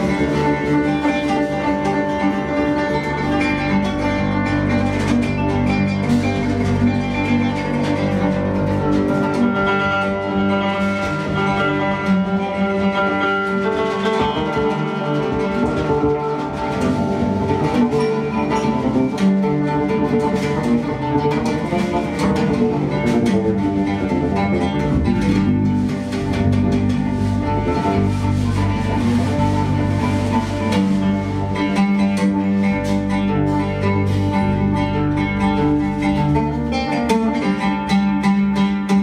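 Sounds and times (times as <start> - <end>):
oud melody: 0.0 - 39.0.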